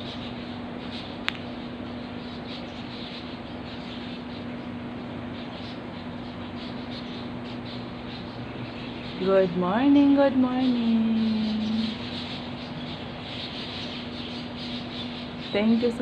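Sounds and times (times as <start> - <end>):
birds chirping faintly: 0.0 - 16.0
steady low hum: 0.0 - 16.0.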